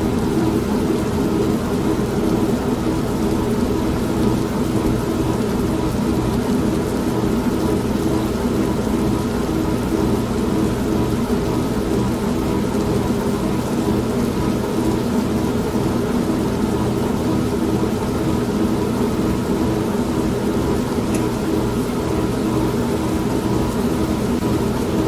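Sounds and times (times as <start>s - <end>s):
steady rain: 0.0s - 25.0s
washing machine motor hum: 0.0s - 25.0s.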